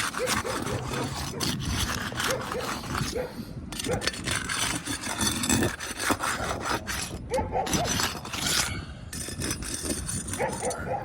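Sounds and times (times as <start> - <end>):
scraping on roof shingle: 0.0 - 3.2, 3.8 - 10.8.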